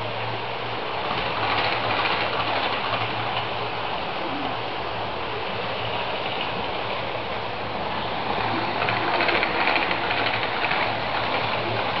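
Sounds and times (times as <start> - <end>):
wheels rattling over rails: 0.0 - 12.0.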